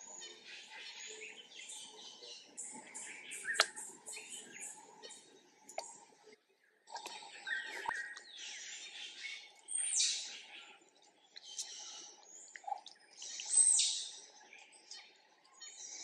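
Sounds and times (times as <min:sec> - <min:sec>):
birds chirping and calling: 0:00.0 - 0:06.0, 0:07.0 - 0:16.0.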